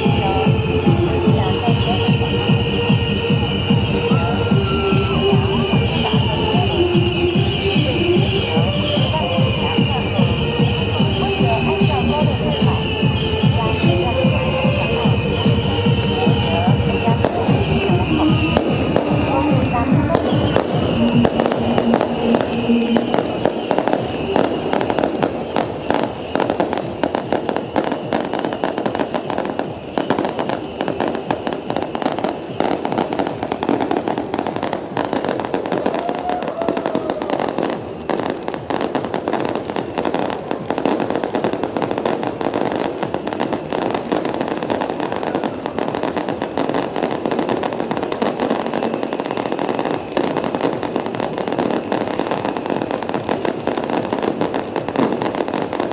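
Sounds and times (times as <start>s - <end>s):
rockets firing in rapid bangs: 0.0s - 55.9s.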